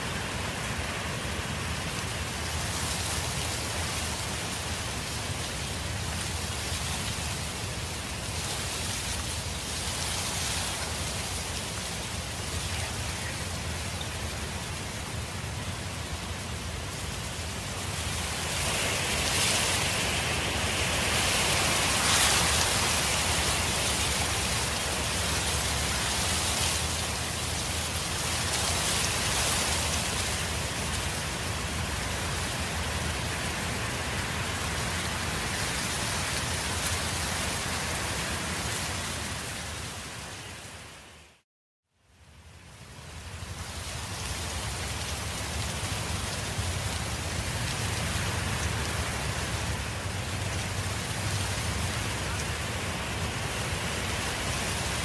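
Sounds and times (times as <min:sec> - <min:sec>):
wind blowing in gusts: 0:00.0 - 0:41.2, 0:42.8 - 0:55.0.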